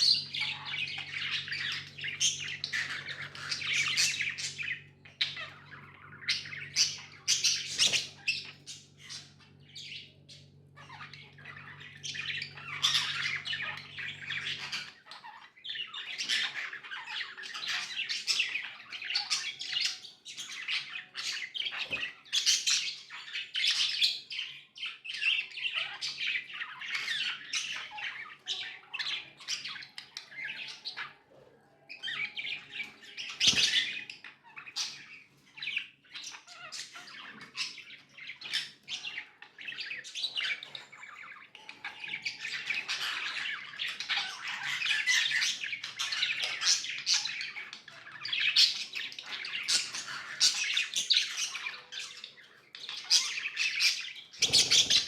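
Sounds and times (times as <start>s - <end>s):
budgerigars chattering: 0.0s - 55.0s.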